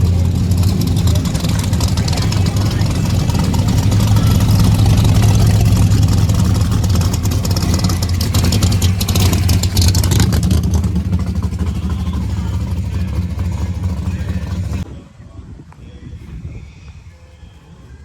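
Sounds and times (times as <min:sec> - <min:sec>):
rattling: 0:00.0 - 0:14.8
car engine rumbling: 0:00.0 - 0:14.9.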